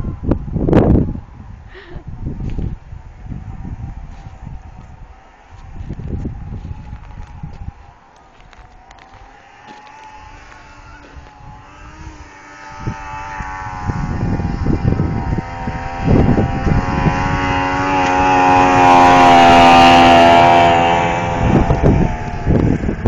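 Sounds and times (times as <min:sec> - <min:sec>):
snowmobile engine running: 0:01.7 - 0:23.0.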